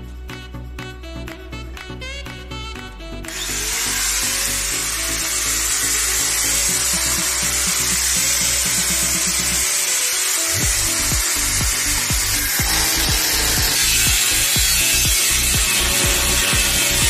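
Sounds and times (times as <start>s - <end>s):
background music: 0.0s - 17.0s
angle grinder whining: 3.2s - 17.0s.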